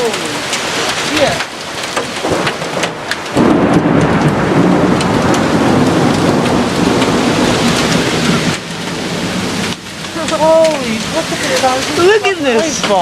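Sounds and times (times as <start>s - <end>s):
hailstones and heavy rain pelting: 0.0s - 13.0s.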